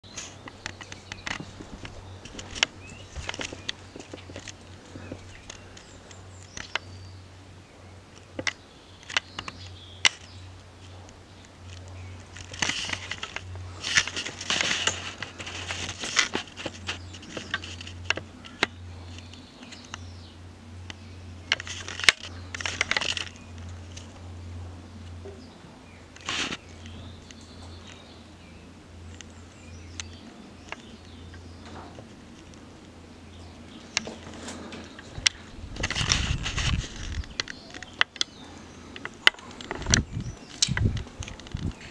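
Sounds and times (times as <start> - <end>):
crunching rustling noise: 0.0 - 41.9
steady low hum: 0.0 - 41.9.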